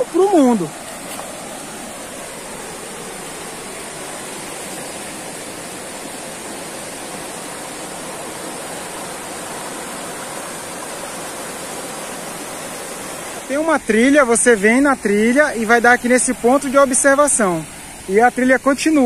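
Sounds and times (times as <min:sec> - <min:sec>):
water rushing over rapids: 0:00.0 - 0:19.0.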